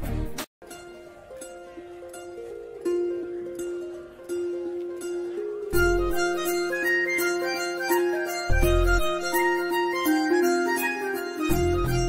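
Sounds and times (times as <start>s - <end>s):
light melody with bass and beat: 0.0s - 12.0s.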